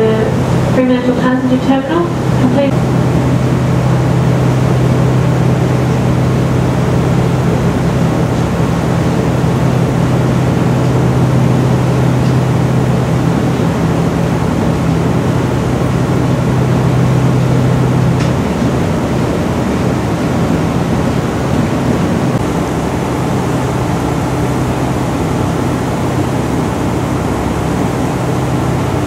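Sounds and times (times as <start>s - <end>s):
boat engine hum: 0.0s - 29.0s
wind and water rushing: 0.2s - 29.0s.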